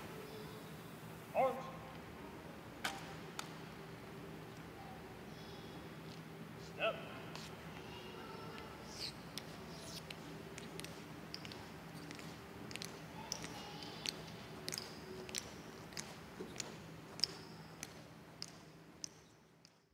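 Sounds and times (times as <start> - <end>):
low room hum: 0.0 - 19.9.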